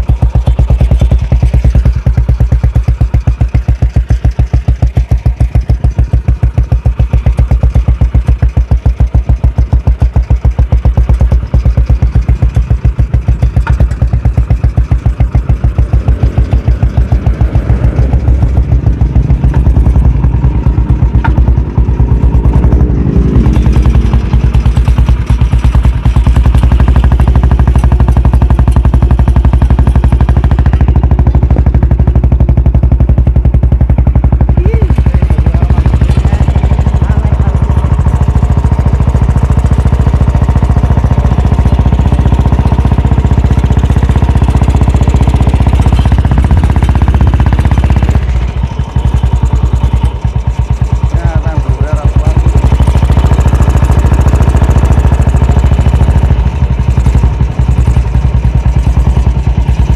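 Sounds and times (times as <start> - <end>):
motorcycle engine running loudly: 0.0 - 59.9.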